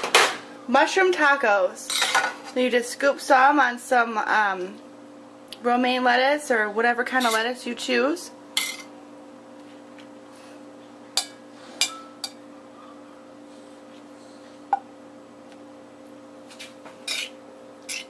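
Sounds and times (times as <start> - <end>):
steady low hum: 0.3 - 18.0.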